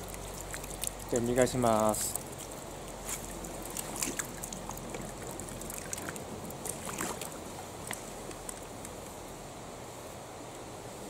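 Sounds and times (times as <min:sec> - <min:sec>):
sharp taps and small splashes: 0:00.0 - 0:09.2
shallow stream running: 0:00.0 - 0:10.8.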